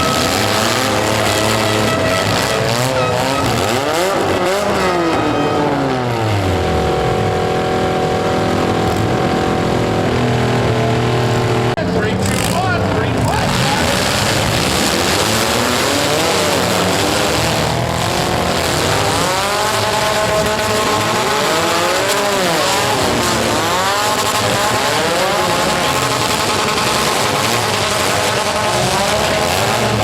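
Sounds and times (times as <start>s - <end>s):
car engines revving: 0.0s - 30.0s
steady loud din: 0.0s - 30.0s.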